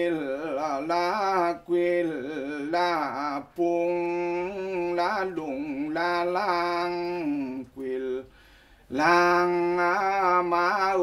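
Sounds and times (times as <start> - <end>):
man chanting: 0.0 - 8.3, 8.9 - 11.0.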